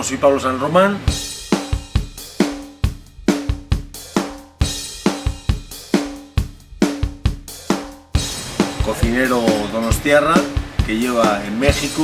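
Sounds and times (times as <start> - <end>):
drum-kit beat: 1.1 - 12.0.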